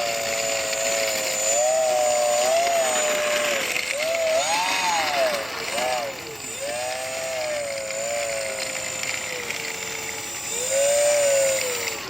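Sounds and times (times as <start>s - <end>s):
model plane motor whining: 0.0s - 12.0s.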